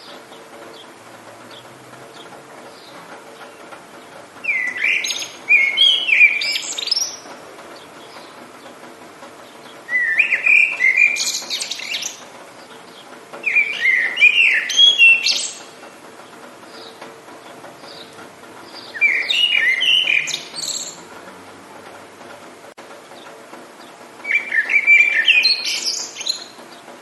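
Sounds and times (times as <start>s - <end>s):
songbird singing: 0.0s - 27.0s
steady hiss of rain: 0.0s - 27.0s.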